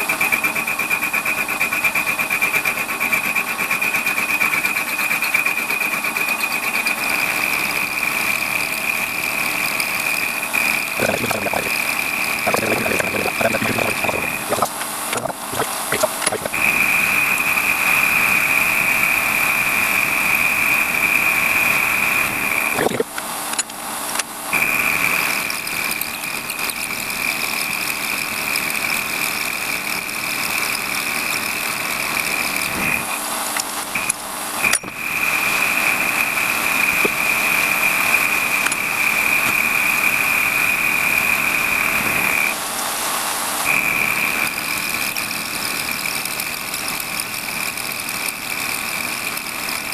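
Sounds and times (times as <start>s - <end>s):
lathe cutter high-pitched whine: 0.0s - 49.9s.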